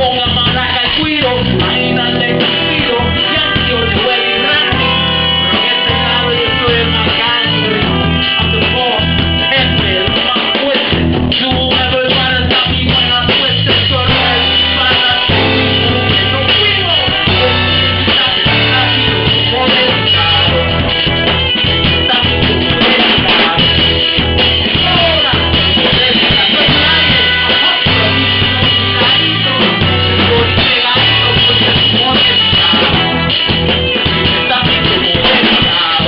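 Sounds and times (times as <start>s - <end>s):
person rapping into a microphone: 0.0s - 36.0s
salsa band playing: 0.0s - 36.0s
trumpets: 0.0s - 36.0s.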